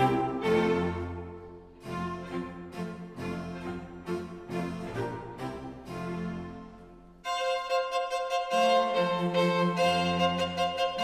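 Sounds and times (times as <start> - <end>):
violin-led instrumental music: 0.0 - 11.0.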